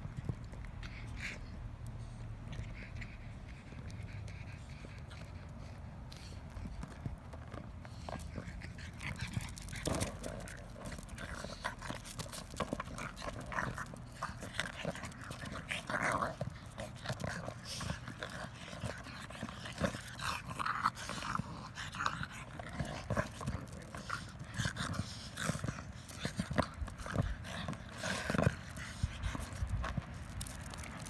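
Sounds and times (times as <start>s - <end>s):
ball and paws scuffing asphalt: 0.0s - 31.0s
dogs growling and breathing hard: 0.5s - 31.0s.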